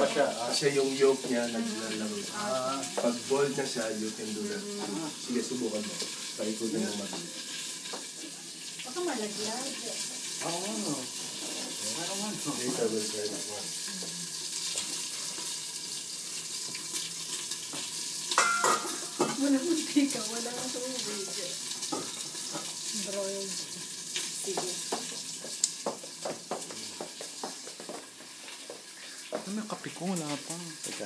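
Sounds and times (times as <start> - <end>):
food sizzling: 0.0 - 31.0
pots and utensils clinking: 0.0 - 31.0.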